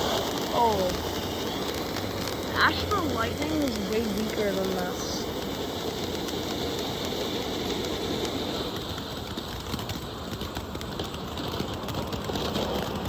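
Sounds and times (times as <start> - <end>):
firework fizzing and crackling: 0.0 - 13.0.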